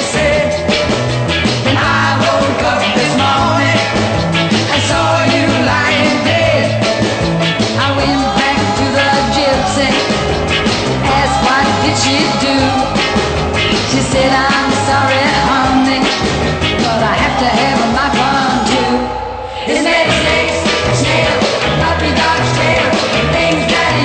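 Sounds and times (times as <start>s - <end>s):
pop song with full band: 0.0s - 24.0s.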